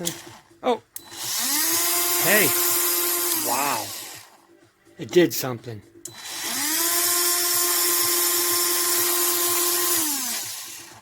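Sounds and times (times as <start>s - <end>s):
rotary tool motor whining: 0.0s - 4.6s, 6.0s - 11.0s.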